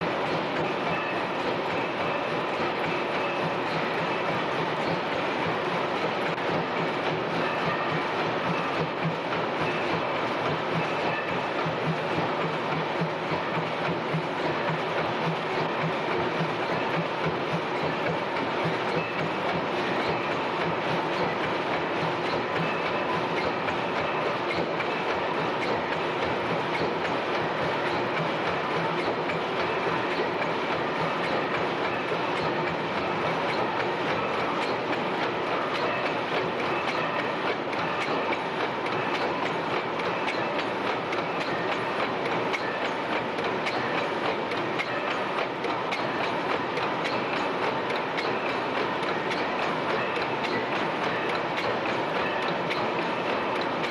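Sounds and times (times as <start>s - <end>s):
gas engines rhythmic clatter: 0.0s - 53.9s.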